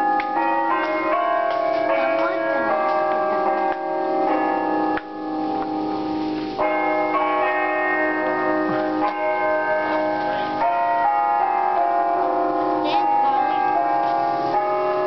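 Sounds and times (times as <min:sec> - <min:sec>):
tower bells ringing: 0:00.0 - 0:15.0.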